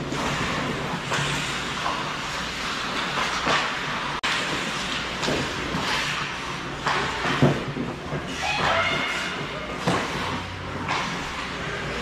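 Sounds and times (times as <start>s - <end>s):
hockey sticks clacking: 0.0s - 12.0s
skates scraping ice: 0.0s - 12.0s.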